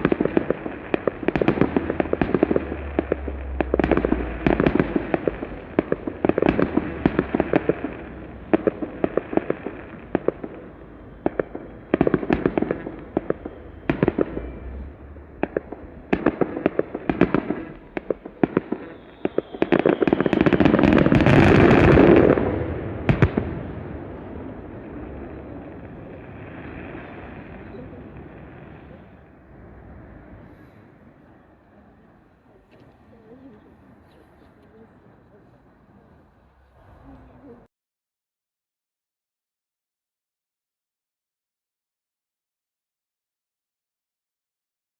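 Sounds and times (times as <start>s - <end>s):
fireworks banging and crackling: 0.0s - 37.6s.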